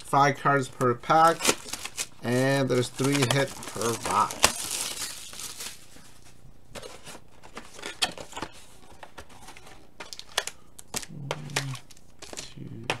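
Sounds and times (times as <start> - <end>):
card stock rustling: 0.6 - 13.0.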